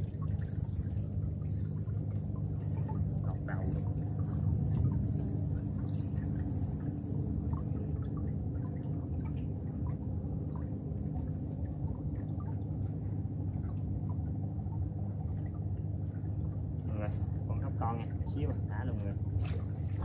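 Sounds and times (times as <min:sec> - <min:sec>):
steady low hum: 0:00.0 - 0:20.0
water dripping from a net: 0:00.0 - 0:20.0.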